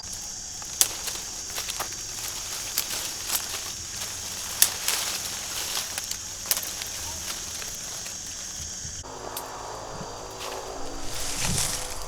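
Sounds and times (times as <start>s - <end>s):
sharp snaps and crackles: 0.0s - 12.0s
steady high hiss: 0.0s - 12.0s.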